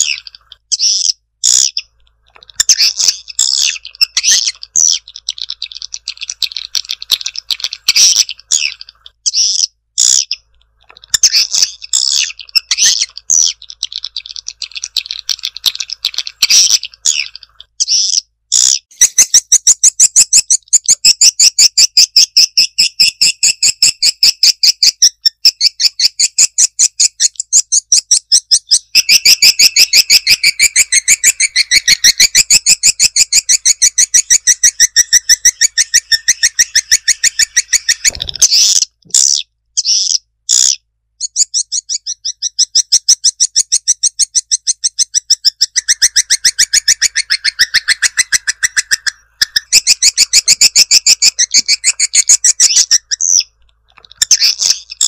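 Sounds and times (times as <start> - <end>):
birds twittering high chirps: 0.0 - 55.0.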